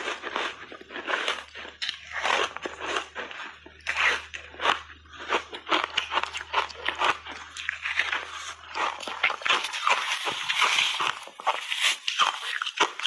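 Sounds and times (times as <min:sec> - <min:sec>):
crunching and chewing ice: 0:00.0 - 0:13.0.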